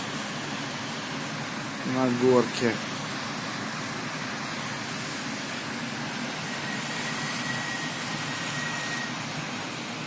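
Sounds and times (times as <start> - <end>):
distant road traffic: 0.0 - 10.0.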